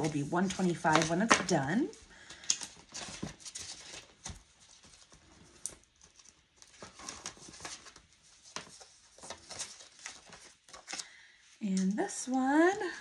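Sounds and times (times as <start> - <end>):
banknotes and plastic sleeves rustling: 0.0 - 13.0.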